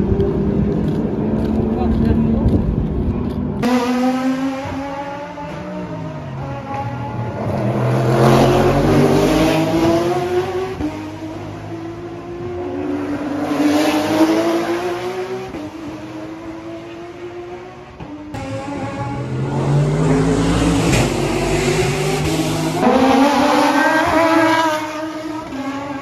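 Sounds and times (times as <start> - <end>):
racing cars accelerating past: 3.6 - 26.0.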